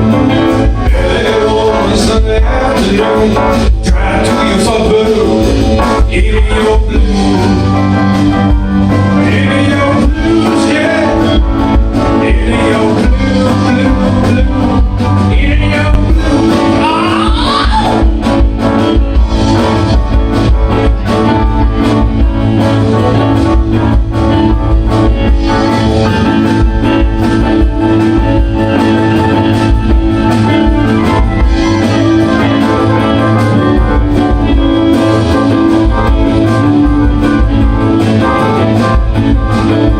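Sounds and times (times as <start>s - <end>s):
bass guitar: 0.0s - 39.9s
electric guitar: 0.0s - 39.9s
guitar lead line bending in pitch: 0.0s - 39.9s
steady drum beat: 0.0s - 39.9s.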